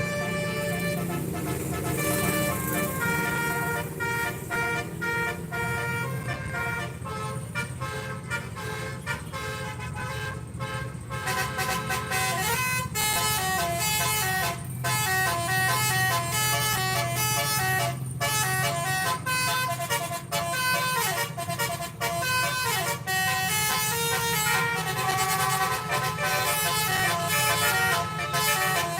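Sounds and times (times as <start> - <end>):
bus engine humming: 0.0 - 28.9
bus horn playing a melody: 0.0 - 28.9.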